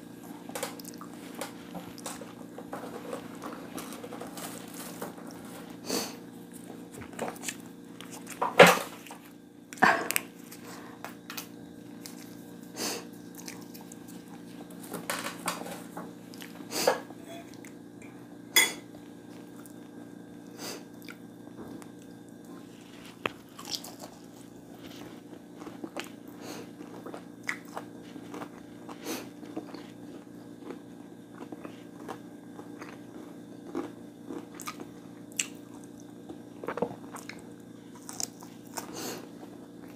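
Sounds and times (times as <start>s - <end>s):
steady low hum: 0.0s - 39.9s
close-up chewing and crunching: 0.2s - 16.7s, 18.9s - 39.9s.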